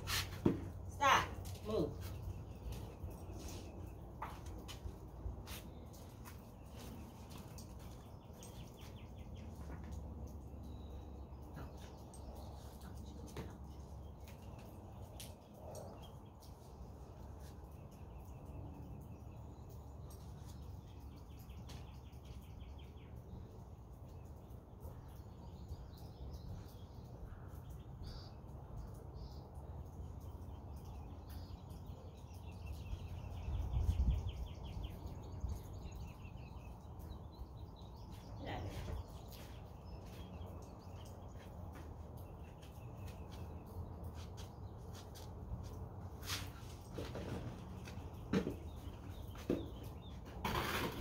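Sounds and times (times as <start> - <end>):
small birds chirping and trilling: 0.0 - 51.0.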